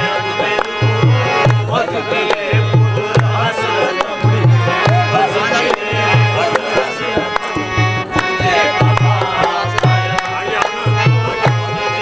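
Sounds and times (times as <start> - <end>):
hand drums beating: 0.0 - 12.0
harmonium chords: 0.0 - 12.0
voices singing: 0.0 - 12.0
hand claps: 0.5 - 4.2, 4.8 - 12.0.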